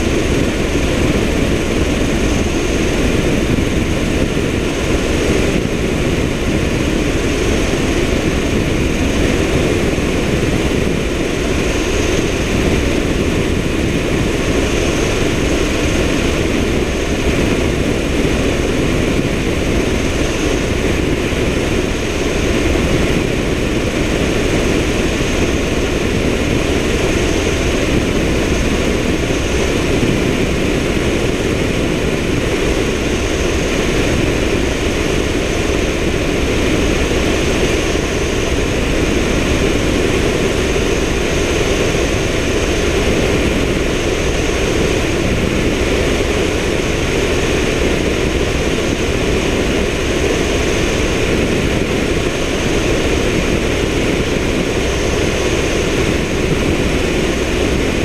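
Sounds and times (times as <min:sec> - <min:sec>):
helicopter rotor and engine: 0:00.0 - 0:58.0
high whine: 0:00.0 - 0:58.0.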